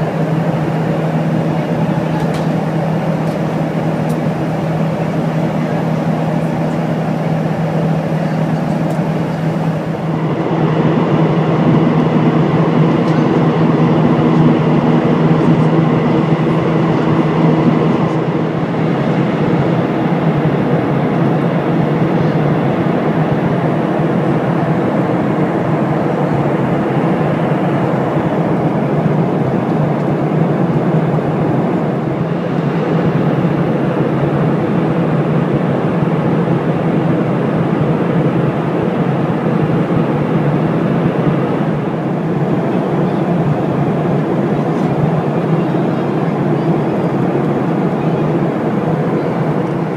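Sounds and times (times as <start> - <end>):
airflow rush in cabin: 0.0 - 49.9
jet engines humming: 0.0 - 49.9.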